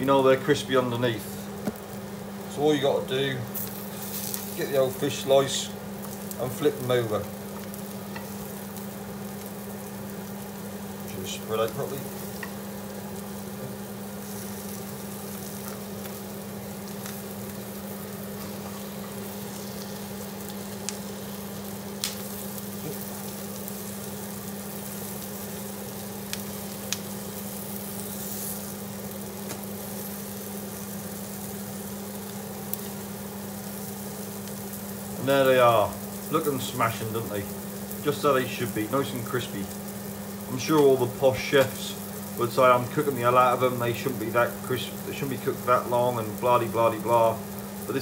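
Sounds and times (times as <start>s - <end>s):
extractor fan hum: 0.0s - 48.0s
food sizzling in a pan: 0.0s - 48.0s.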